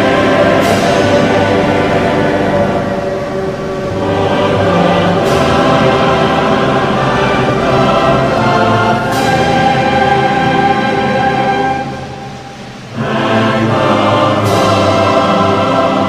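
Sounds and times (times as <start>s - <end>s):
choir singing with orchestra: 0.0s - 16.0s.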